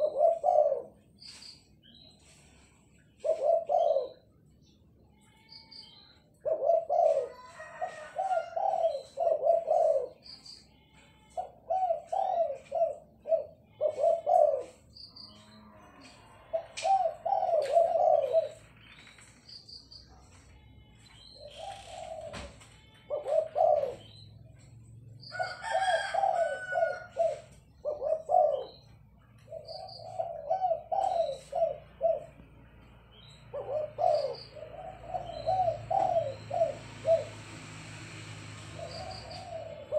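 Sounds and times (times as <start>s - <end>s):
dove cooing: 0.0s - 1.1s, 2.3s - 4.4s, 5.8s - 10.4s, 11.2s - 18.8s, 21.4s - 39.9s.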